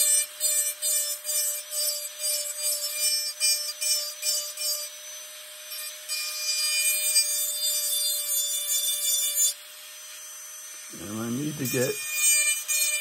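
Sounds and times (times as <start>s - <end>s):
rotary tool grinding wood: 0.0s - 13.0s.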